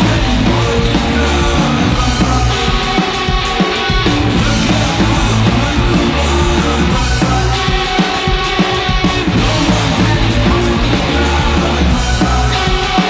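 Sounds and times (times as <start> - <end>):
punk rock band playing: 0.0 - 13.0.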